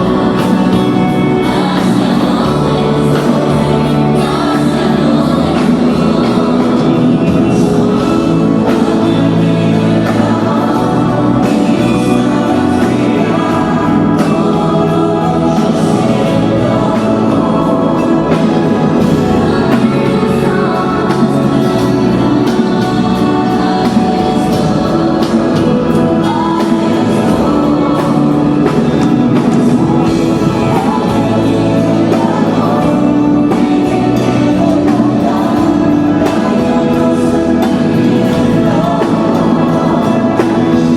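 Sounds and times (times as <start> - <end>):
music with singing voices: 0.0 - 40.9.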